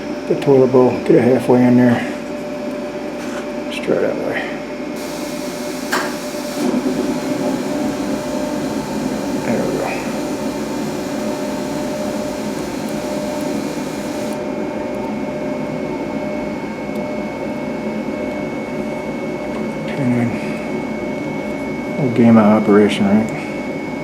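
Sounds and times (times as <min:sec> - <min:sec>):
machine hum and whir: 0:00.0 - 0:24.0.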